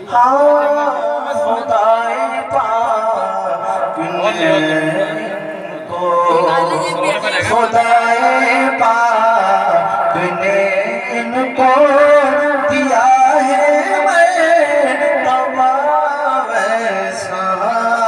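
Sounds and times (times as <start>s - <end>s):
man singing devotional song: 0.0s - 18.0s.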